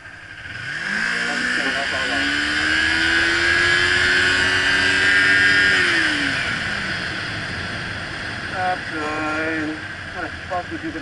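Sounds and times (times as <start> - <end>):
motorcycle engine under throttle: 0.0 - 11.0
steady rushing noise: 0.0 - 11.0.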